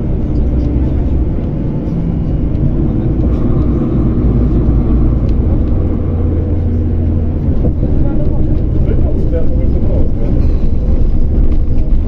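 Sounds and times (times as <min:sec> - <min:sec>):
vehicle motor low rumble: 0:00.0 - 0:12.0.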